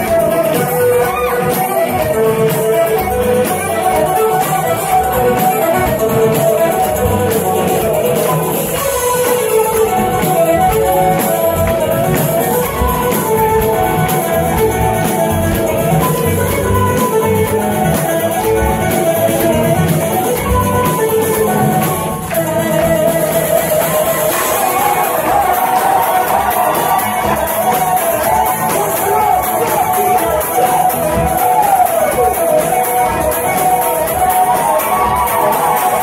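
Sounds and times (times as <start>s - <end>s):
banjo: 0.0s - 36.0s
drums: 0.0s - 36.0s
fiddles: 0.0s - 36.0s
whistles: 0.0s - 36.0s.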